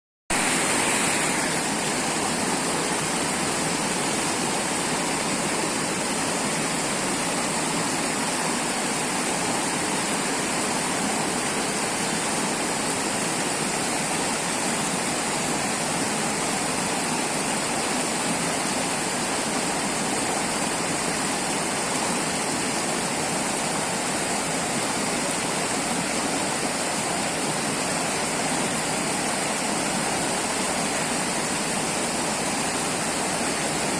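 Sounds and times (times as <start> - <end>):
river water rushing over rocks: 0.3 - 33.9.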